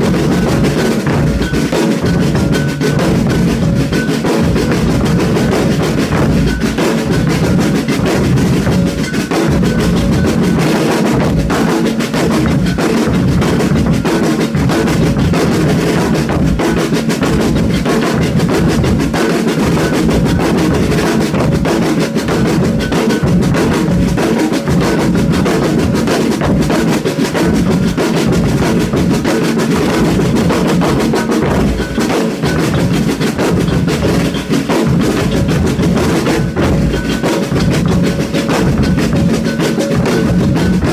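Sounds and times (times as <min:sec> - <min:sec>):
percussion ensemble drumming: 0:00.0 - 0:40.9.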